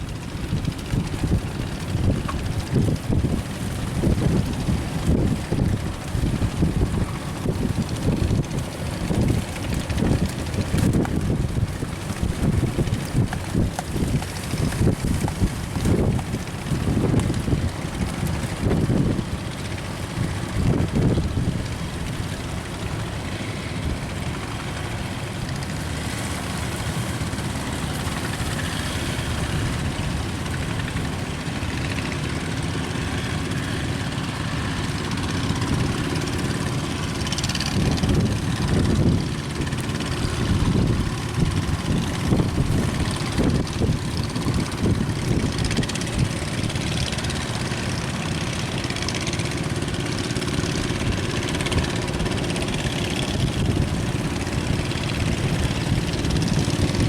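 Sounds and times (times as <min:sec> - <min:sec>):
boat engine running: 0:00.0 - 0:57.0
water noise: 0:00.0 - 0:57.0
wind gusts: 0:00.0 - 0:57.0.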